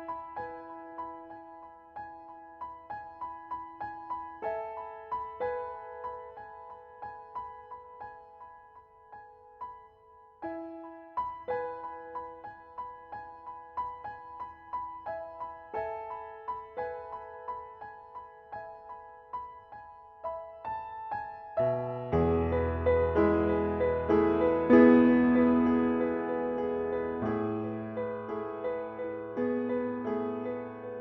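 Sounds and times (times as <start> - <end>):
soft solo piano music: 0.0 - 31.0.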